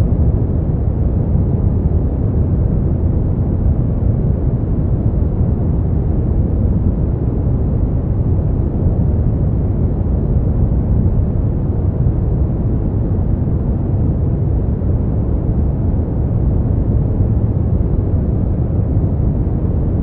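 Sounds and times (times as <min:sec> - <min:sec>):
deep steady brown noise hiss: 0:00.0 - 0:20.0.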